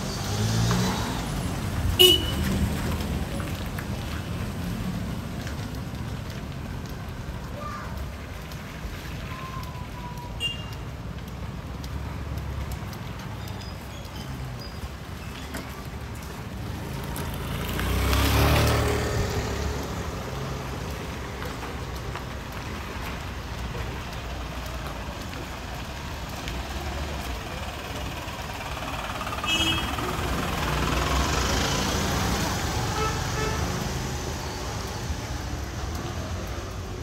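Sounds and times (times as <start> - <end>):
vehicle passing with low rumble: 0.0 - 7.5, 14.4 - 37.0
traffic noise: 0.0 - 37.0.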